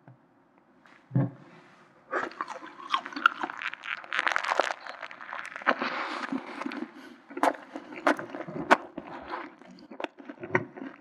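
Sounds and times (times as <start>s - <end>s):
close chewing mouth noises: 2.1s - 11.0s.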